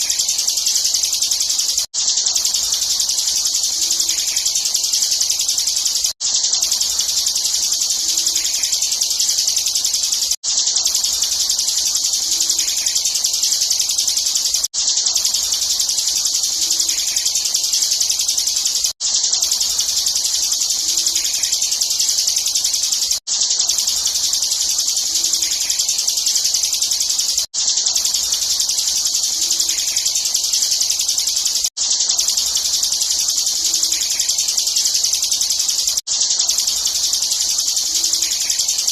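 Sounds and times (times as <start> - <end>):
bird singing high-pitched trill: 0.0 - 38.9.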